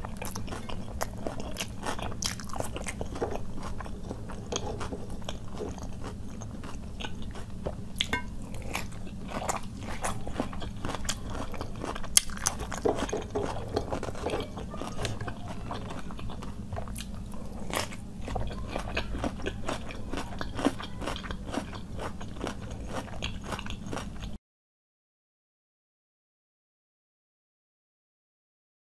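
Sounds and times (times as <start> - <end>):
crunchy chewing: 0.0 - 24.4.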